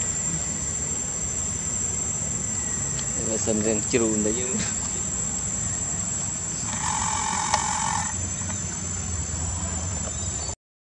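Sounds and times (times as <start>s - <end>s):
high-pitched insect buzz: 0.0s - 10.6s.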